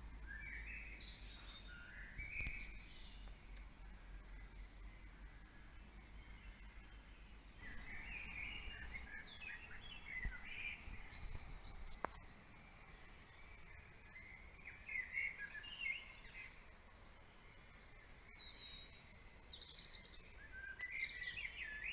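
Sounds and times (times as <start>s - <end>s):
songbirds twittering: 0.0s - 21.9s.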